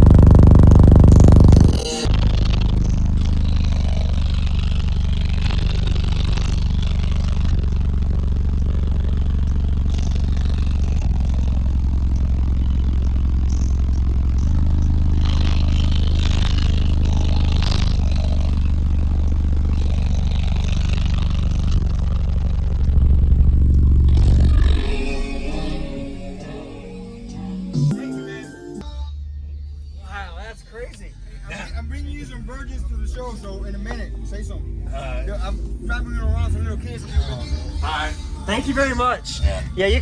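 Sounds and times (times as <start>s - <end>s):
deep bass from subwoofers: 0.0s - 28.0s, 28.8s - 40.0s.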